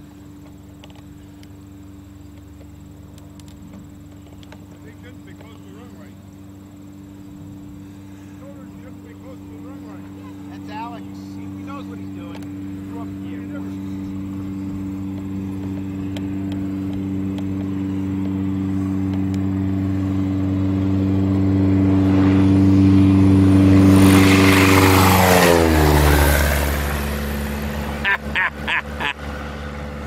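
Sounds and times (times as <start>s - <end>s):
propeller plane passing: 0.0s - 30.0s.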